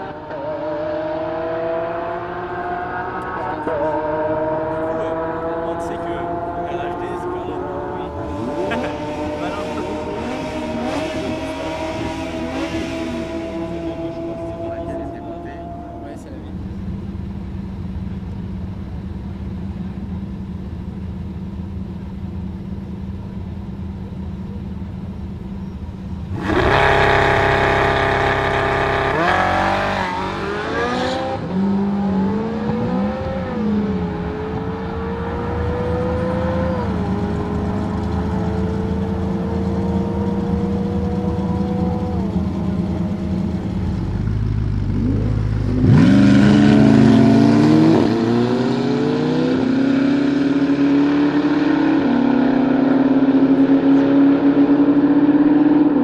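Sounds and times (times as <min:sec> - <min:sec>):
sports car engines revving: 0:00.0 - 0:56.0.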